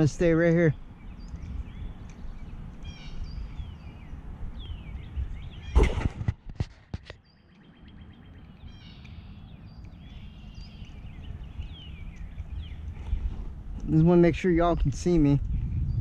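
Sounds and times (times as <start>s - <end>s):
steady low rumble: 0.0s - 6.6s, 7.3s - 16.0s
songbirds chirping: 0.0s - 16.0s.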